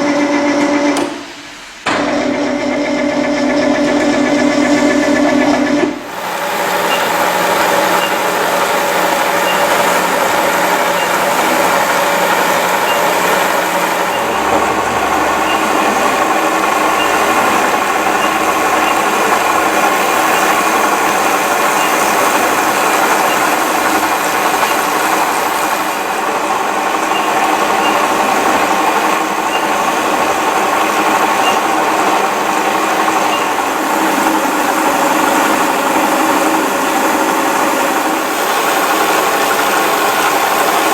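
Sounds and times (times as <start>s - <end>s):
milling machine hum: 0.0s - 40.9s
steady machine tones: 0.0s - 40.9s.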